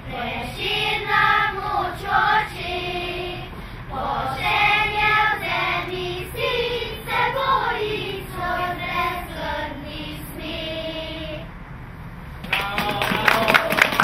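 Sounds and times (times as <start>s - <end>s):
children's choir singing: 0.0s - 11.6s.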